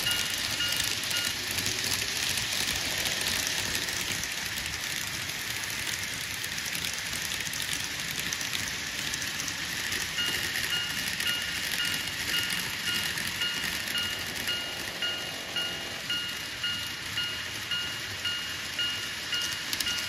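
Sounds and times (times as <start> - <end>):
model trains rattling on track: 0.0 - 20.0.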